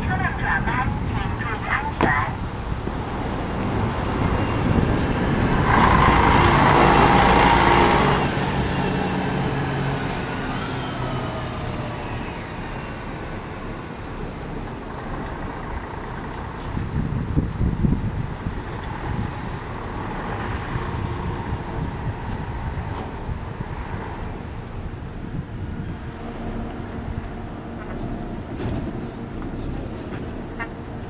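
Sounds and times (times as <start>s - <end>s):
bus driving past: 0.0s - 31.0s
traffic noise: 0.0s - 31.0s.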